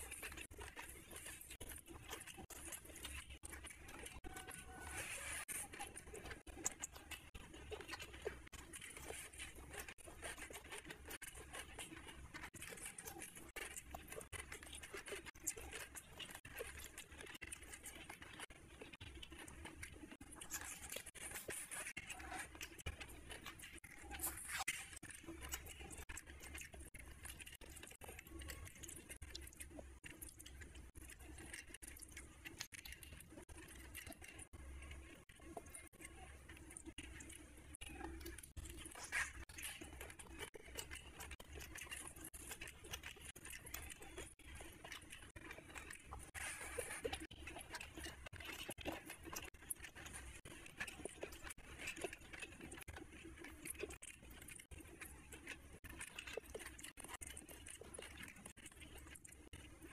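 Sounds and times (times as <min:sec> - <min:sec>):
chewing and lip smacking: 0:00.0 - 0:59.9
wet squishing of fingers in rice: 0:00.0 - 0:59.9.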